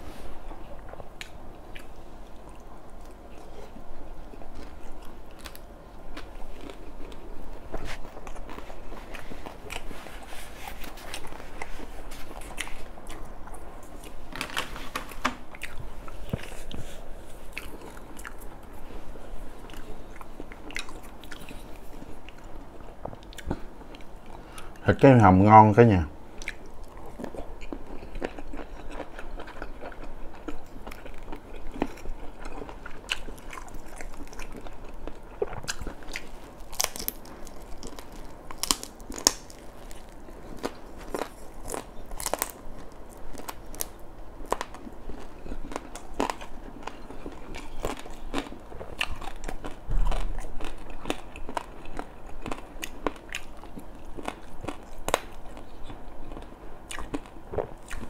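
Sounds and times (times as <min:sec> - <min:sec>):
crunchy chewing of fried fish: 0:00.2 - 0:25.1, 0:26.3 - 0:58.0.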